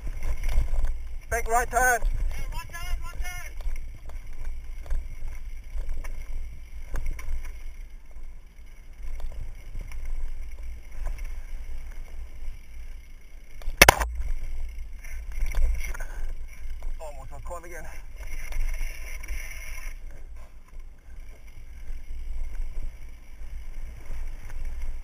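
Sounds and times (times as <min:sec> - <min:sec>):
bike clicks and rattles: 0:00.0 - 0:17.0, 0:17.8 - 0:25.0
bike rumbling on dirt trail: 0:00.0 - 0:25.0.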